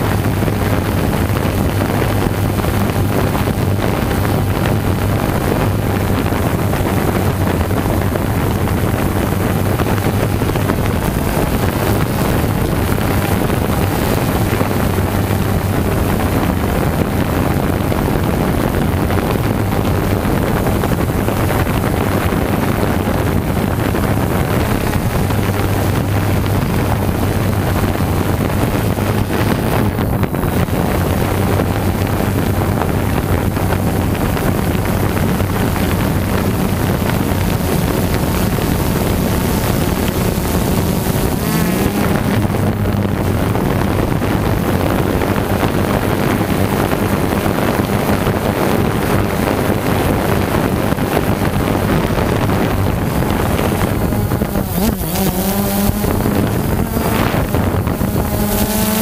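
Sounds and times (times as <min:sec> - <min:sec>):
wind on microphone: 0:00.0 - 0:59.0
drone propellers whirring: 0:00.2 - 0:45.3, 0:52.2 - 0:59.0.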